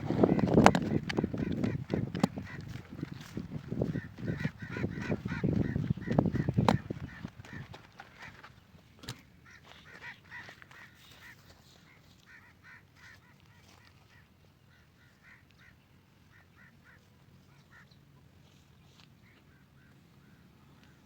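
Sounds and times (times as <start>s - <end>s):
distant birds calling: 0.0s - 21.0s.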